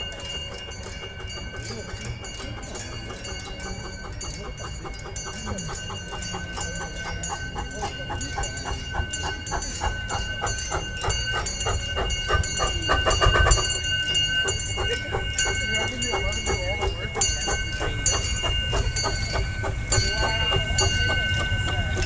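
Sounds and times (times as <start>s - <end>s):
steam locomotives chuffing: 0.0s - 22.0s.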